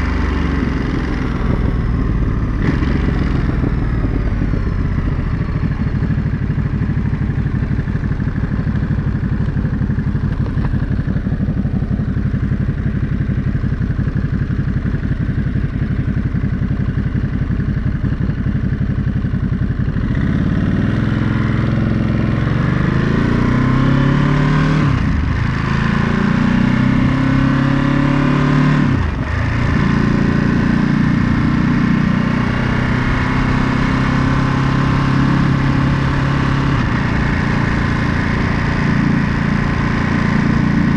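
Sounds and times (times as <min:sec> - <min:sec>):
motorcycle engine idling and accelerating: 0:00.0 - 0:40.9.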